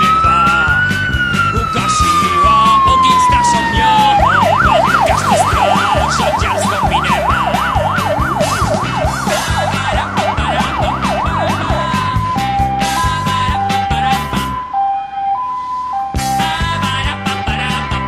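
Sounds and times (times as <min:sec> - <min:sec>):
background music with beat: 0:00.0 - 0:18.0
fire engine siren wailing: 0:00.0 - 0:18.0.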